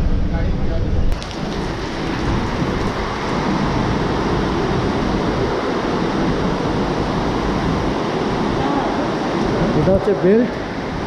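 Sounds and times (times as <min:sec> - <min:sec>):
heavy rain hissing: 0:01.2 - 0:11.0.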